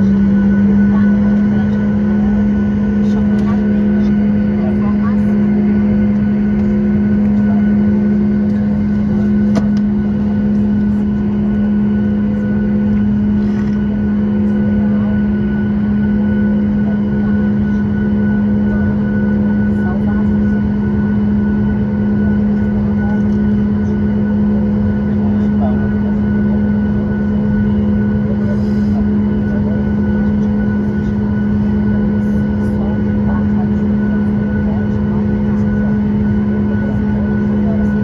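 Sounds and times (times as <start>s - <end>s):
airplane cabin drone: 0.0s - 38.0s.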